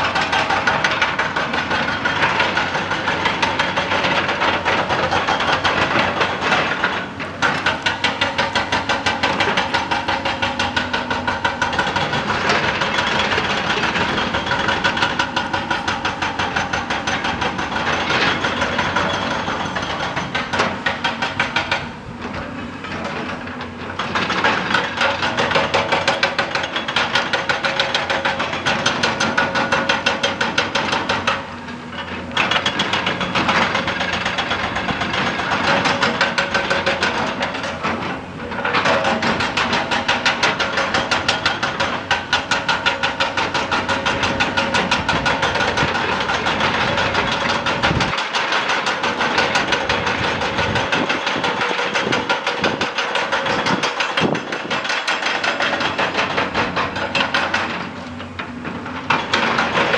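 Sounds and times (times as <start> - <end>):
excavator engine running: 0.0 - 59.9
hydraulic rock breaker hammering: 0.0 - 59.9.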